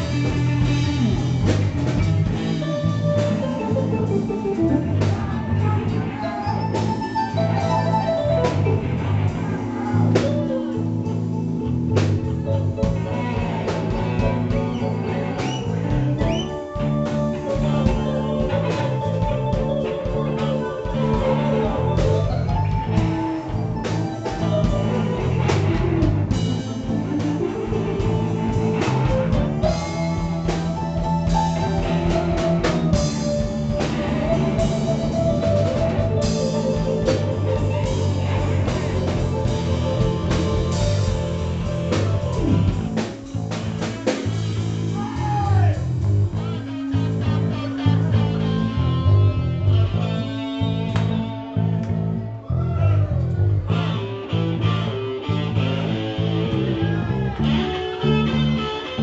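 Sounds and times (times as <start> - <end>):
blues-rock band playing: 0.0 - 59.0
electric guitar bending notes: 0.0 - 59.0.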